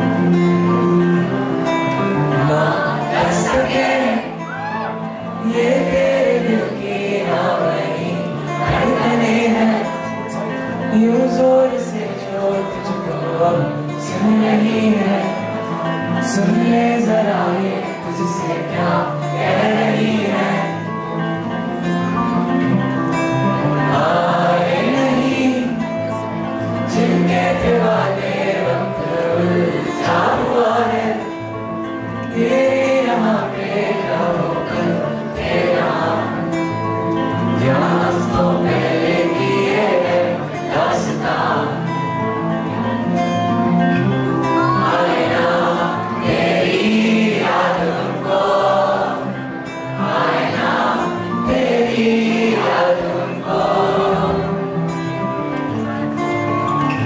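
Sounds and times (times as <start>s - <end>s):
person singing: 0.0s - 21.0s, 23.3s - 57.0s
crowd singing along: 0.0s - 57.0s
strummed acoustic guitar: 0.0s - 57.0s.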